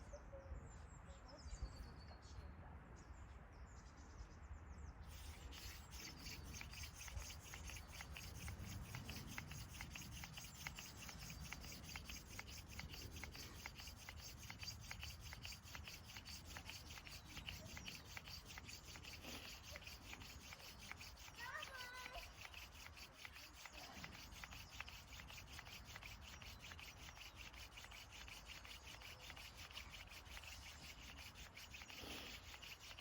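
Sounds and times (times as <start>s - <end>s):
wood-on-wood rubbing: 5.1s - 33.0s.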